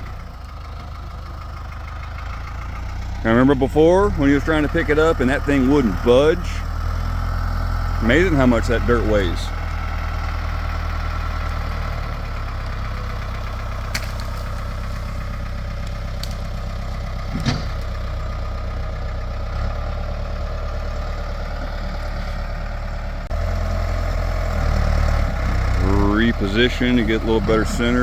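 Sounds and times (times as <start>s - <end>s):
backhoe engine running: 0.0s - 28.0s.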